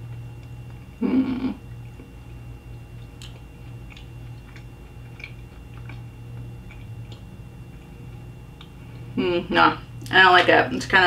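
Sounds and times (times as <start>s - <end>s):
person chewing chocolate: 0.0s - 9.2s
steady low hum: 0.0s - 11.0s.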